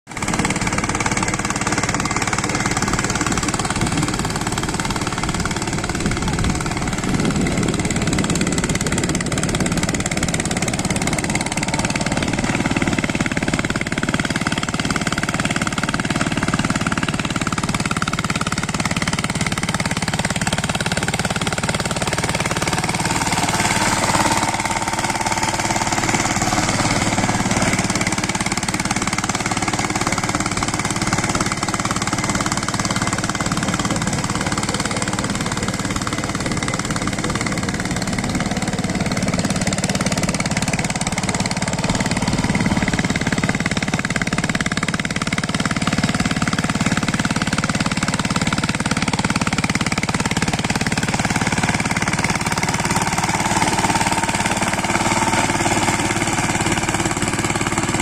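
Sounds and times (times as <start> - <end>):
diesel engine running: 0.1 - 58.0
wheels churning through mud: 0.1 - 58.0.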